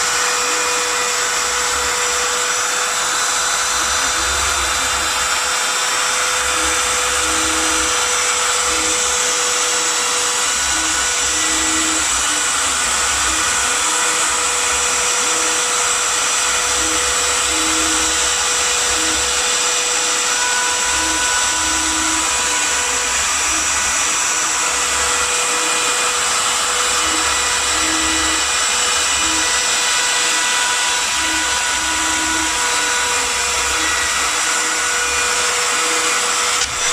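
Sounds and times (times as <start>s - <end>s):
axis motors humming: 0.0s - 36.9s.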